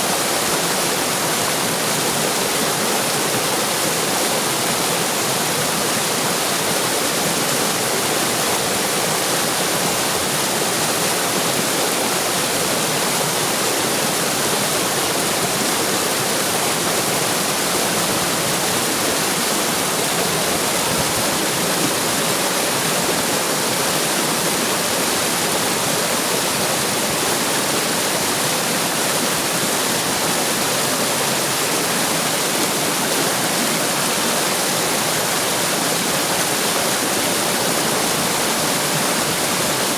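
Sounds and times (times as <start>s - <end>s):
water splashing in stream: 0.0s - 39.9s.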